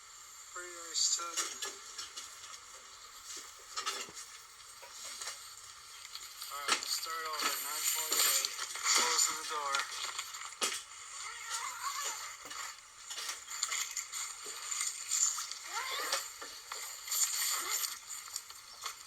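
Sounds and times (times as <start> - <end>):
tent fabric rustling: 2.6 - 19.0.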